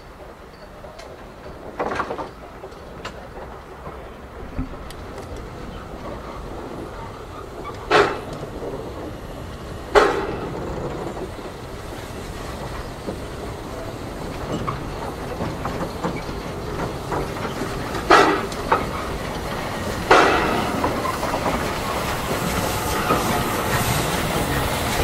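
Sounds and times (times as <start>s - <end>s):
steam locomotive passing: 0.0s - 25.0s
wheels clicking over rail joints: 0.0s - 25.0s.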